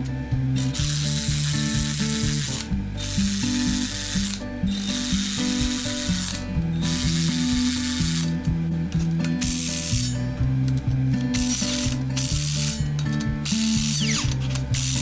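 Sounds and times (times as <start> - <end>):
cordless electric ratchet running: 0.6 - 8.5, 9.2 - 10.2, 11.3 - 15.0.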